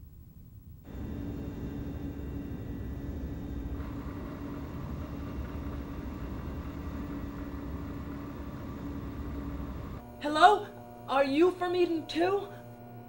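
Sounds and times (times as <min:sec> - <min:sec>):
low machinery rumble and hum: 0:00.8 - 0:13.0.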